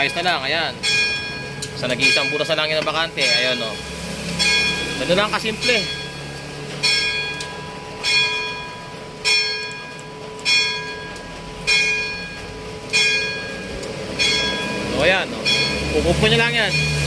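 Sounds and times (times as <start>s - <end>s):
church bell tolling: 0.0s - 17.0s.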